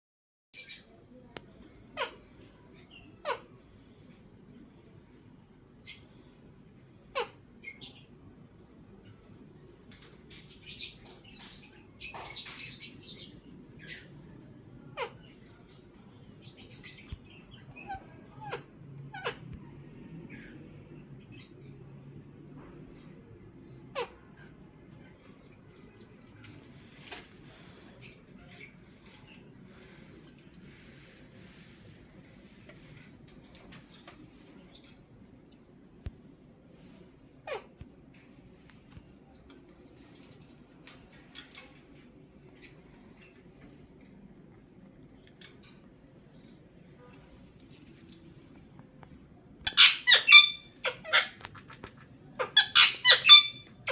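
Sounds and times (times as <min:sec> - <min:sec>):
high-pitched insect chirring: 0:00.6 - 0:53.9.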